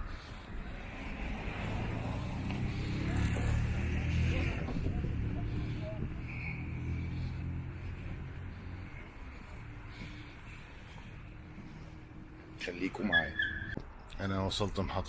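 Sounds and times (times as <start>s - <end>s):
vehicle passing: 0.0s - 13.8s.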